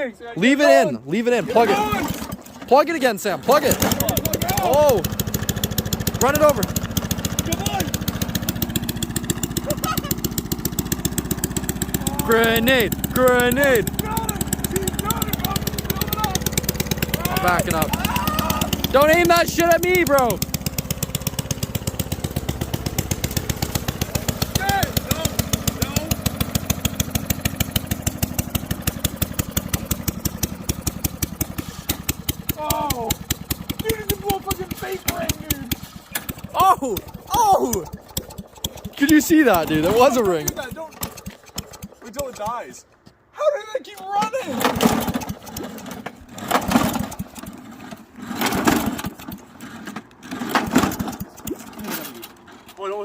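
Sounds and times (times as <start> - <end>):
lawn mower engine popping: 1.1 - 53.0.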